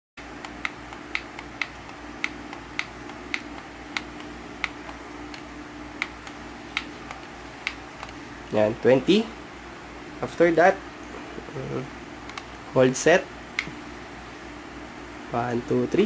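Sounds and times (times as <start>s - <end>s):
faint electrical hum: 0.2s - 16.0s.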